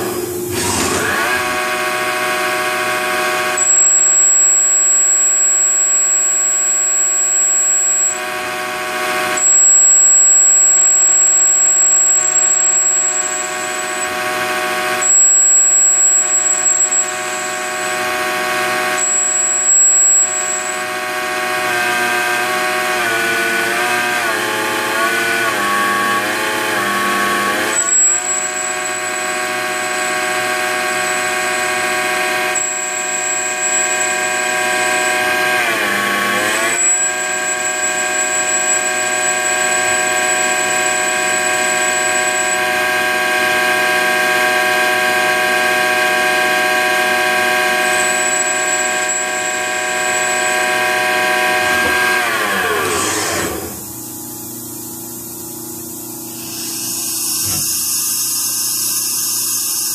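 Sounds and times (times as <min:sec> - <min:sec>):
drill spindle hissy whir: 0:00.0 - 0:54.0, 0:56.2 - 0:59.9
lathe spindle whining: 0:00.0 - 0:54.0.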